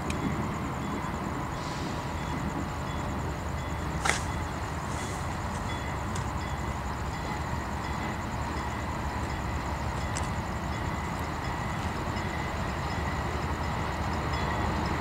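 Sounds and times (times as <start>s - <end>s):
distant train rumbling: 0.0s - 15.0s.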